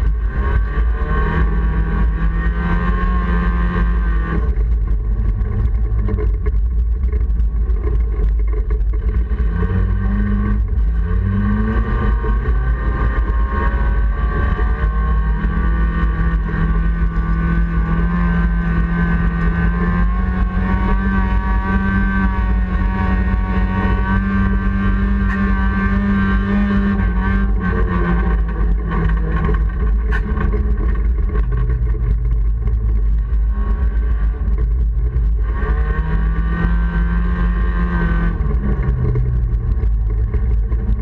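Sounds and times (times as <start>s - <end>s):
heavy low rumble: 0.0s - 41.0s
race car engine revving: 0.0s - 41.0s.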